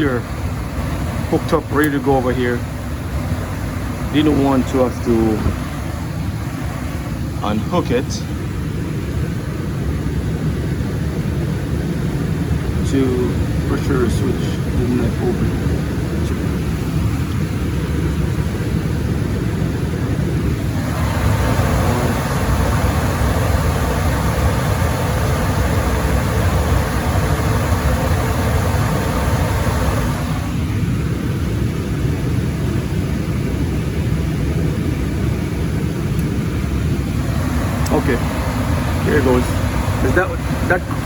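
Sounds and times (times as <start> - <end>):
broad rushing sound: 0.0 - 9.5, 11.7 - 31.8, 35.7 - 41.0
gas furnace rumbling: 0.0 - 41.0.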